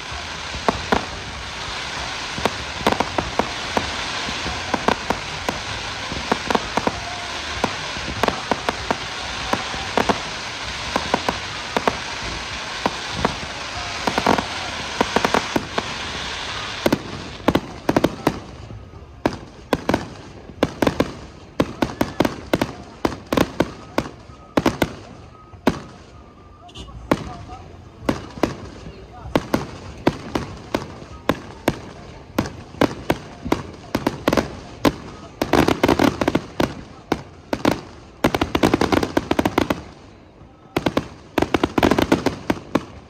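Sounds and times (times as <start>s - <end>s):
fireworks bangs and pops: 0.0s - 43.0s
fireworks crackling hiss: 0.0s - 43.0s.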